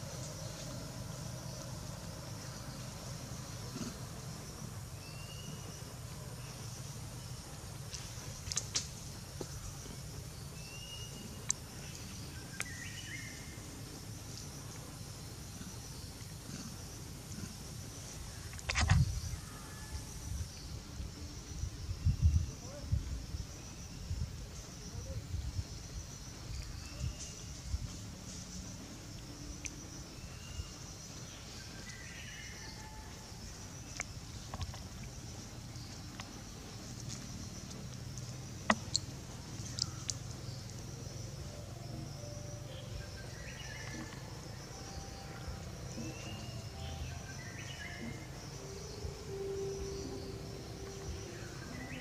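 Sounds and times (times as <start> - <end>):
insect hiss: 0.0 - 52.0
outdoor background noise: 0.0 - 52.0.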